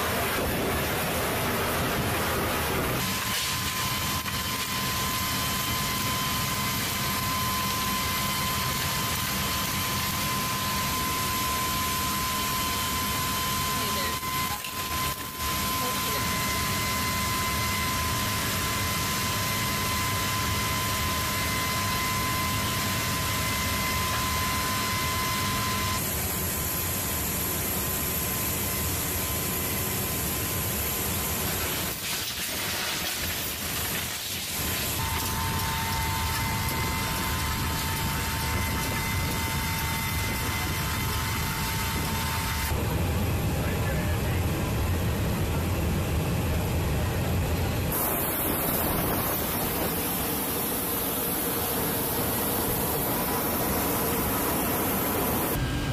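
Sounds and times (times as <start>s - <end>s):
aircraft machinery rush: 0.0s - 55.9s
high steady whine: 0.0s - 55.9s.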